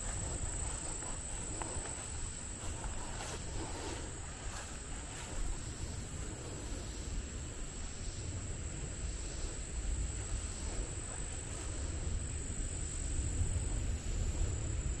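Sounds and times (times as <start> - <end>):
constant low rumble: 0.0 - 15.0
high-pitched insect chorus: 0.0 - 15.0.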